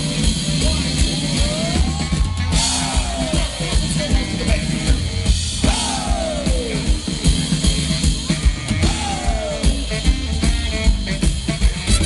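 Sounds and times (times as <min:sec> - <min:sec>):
drum kit beat: 0:00.0 - 0:12.0
swing big band playing: 0:00.0 - 0:12.0.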